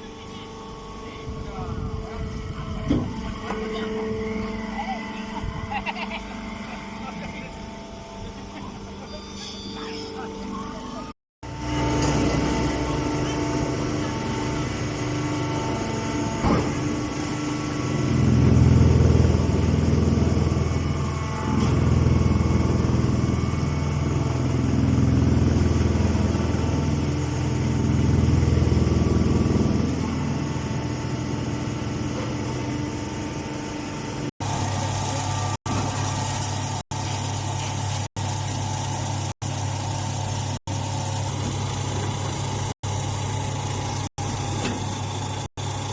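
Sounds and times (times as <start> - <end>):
motor-driven machine running: 0.0 - 45.9.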